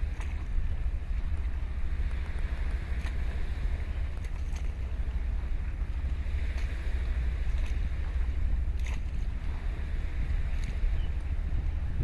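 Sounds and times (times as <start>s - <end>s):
small waves hissing: 0.0s - 12.0s
wind buffeting microphone: 0.0s - 12.0s.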